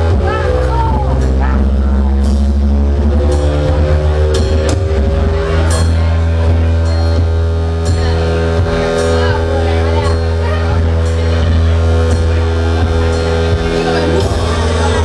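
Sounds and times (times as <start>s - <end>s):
drum and cymbal hits: 0.0s - 15.0s
keyboard chords: 0.0s - 15.0s
low bass notes: 0.0s - 15.0s
rock band playing: 0.0s - 15.0s.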